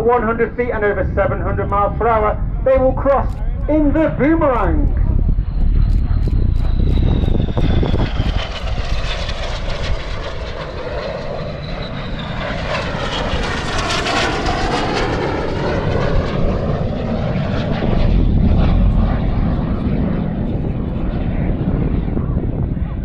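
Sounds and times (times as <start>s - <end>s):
high jet whine: 0.0s - 23.0s
jets passing low: 0.0s - 23.0s
low rumble: 0.0s - 23.0s.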